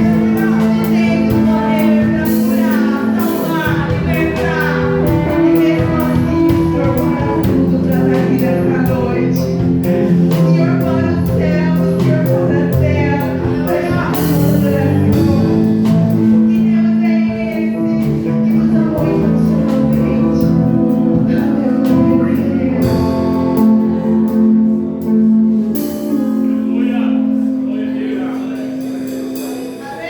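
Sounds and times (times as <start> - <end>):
guitar: 0.0 - 30.0
worship band music: 0.0 - 30.0.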